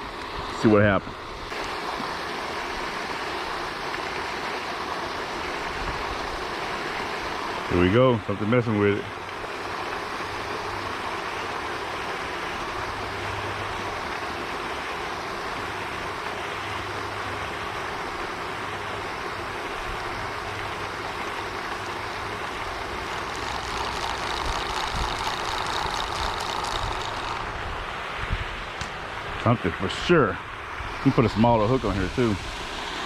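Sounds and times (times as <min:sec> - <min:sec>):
water fountain spraying: 0:00.0 - 0:33.0.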